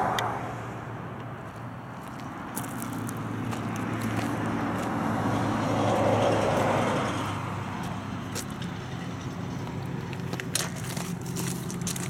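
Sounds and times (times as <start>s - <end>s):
vehicle driving past: 2.3s - 12.0s.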